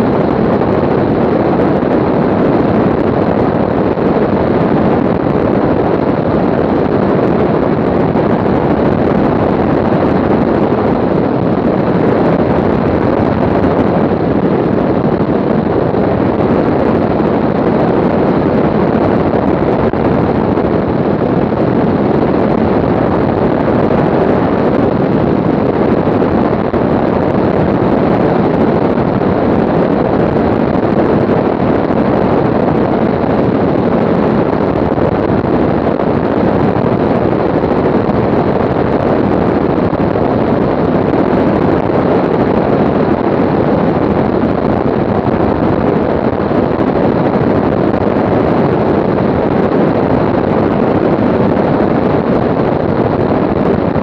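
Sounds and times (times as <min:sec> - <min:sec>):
aircraft wind and engine noise: 0:00.0 - 0:54.0.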